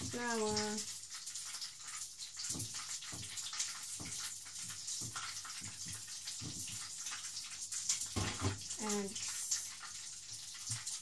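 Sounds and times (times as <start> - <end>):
oil sizzling in pan: 0.0 - 11.0.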